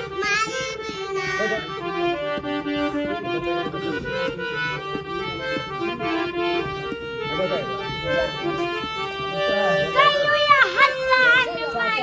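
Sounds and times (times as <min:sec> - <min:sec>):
reed instrument folk melody: 0:00.0 - 0:12.0.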